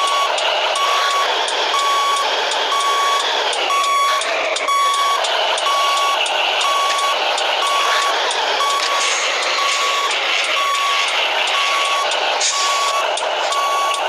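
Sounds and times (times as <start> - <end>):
diesel engine running: 0.0 - 14.0
truck reversing alarm beeping: 0.0 - 14.0.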